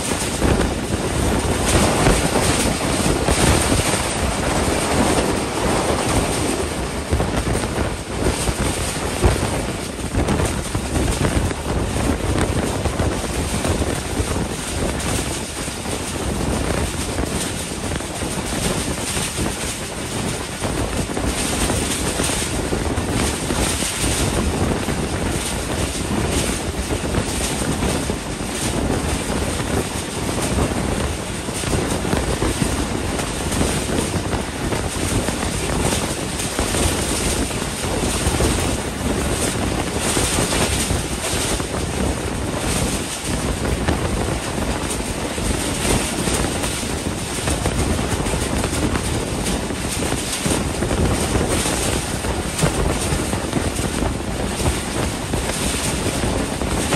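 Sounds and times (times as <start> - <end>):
rushing air: 0.0 - 56.9
train running noise: 0.0 - 56.9
wind buffeting microphone: 0.0 - 56.9.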